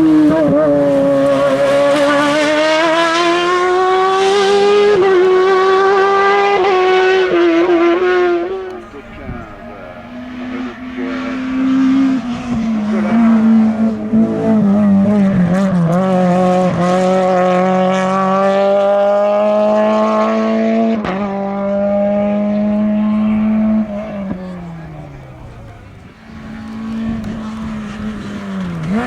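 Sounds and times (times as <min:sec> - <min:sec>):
race car engine at high revs: 0:00.0 - 0:29.0.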